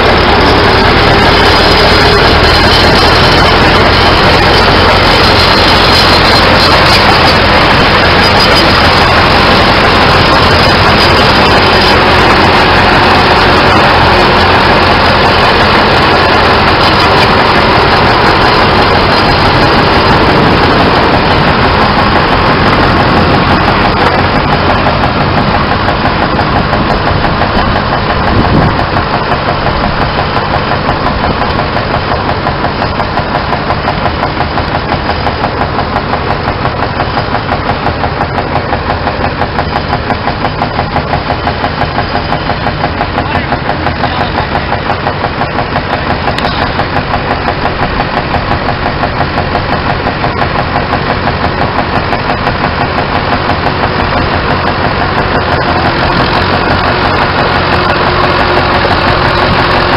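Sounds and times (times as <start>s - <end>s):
tractor engines running under load: 0.0s - 59.9s.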